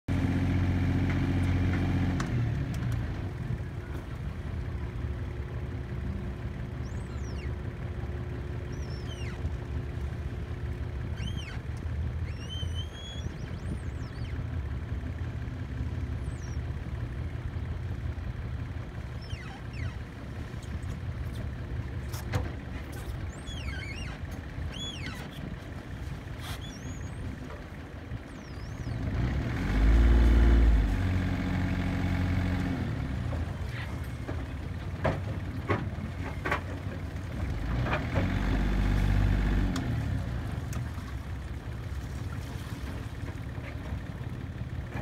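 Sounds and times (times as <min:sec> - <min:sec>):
boat engine running: 0:00.1 - 0:45.0.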